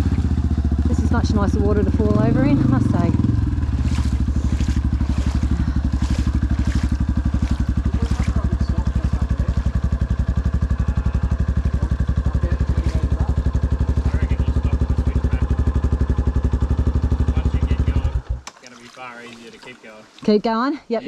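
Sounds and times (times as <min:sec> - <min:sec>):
motorcycle engine idling: 0:00.0 - 0:18.4.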